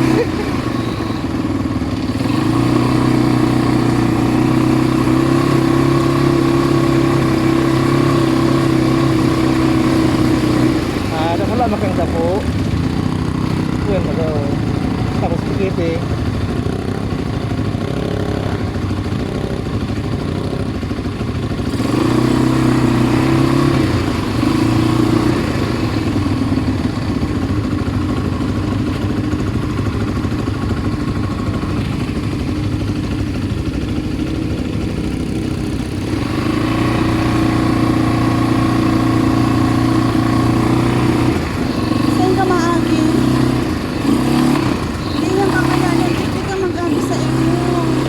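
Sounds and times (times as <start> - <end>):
quad bike engine revving: 0.0 - 48.0.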